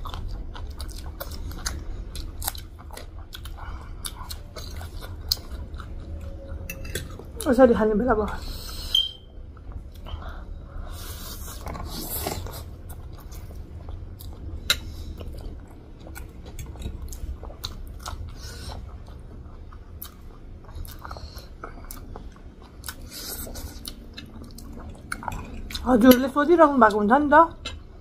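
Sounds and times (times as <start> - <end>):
people chewing noodles: 0.0 - 7.6, 8.3 - 26.3.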